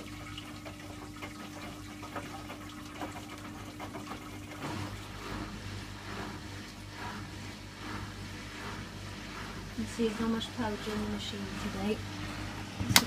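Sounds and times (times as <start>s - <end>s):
motor hum: 0.0s - 13.0s
water sloshing in washing machine: 0.0s - 13.0s.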